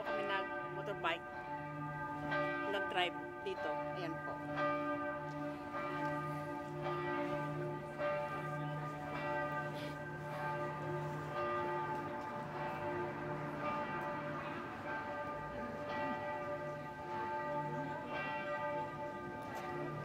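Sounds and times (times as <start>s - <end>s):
church bells pealing: 0.0s - 20.0s.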